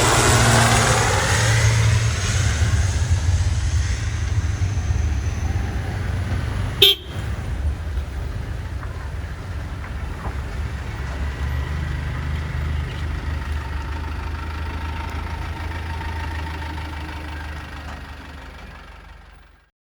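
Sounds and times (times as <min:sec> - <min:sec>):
turboprop engines rumbling: 0:00.0 - 0:19.7.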